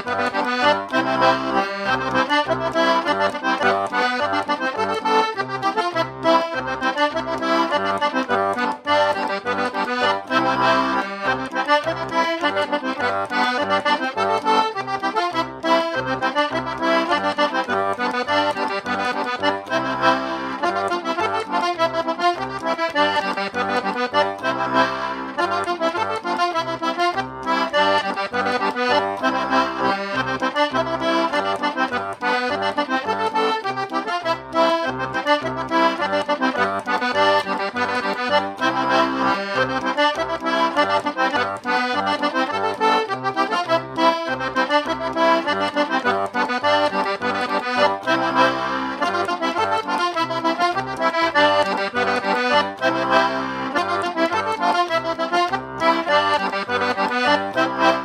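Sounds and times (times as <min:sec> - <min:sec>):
button accordion playing: 0:00.0 - 0:58.0.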